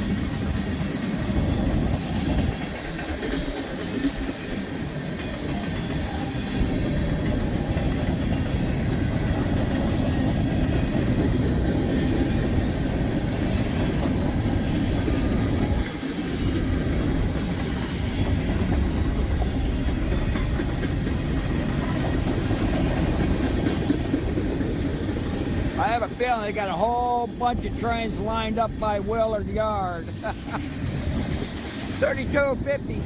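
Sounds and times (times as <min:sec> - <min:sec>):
freight train wheels rumbling: 0:00.0 - 0:33.0.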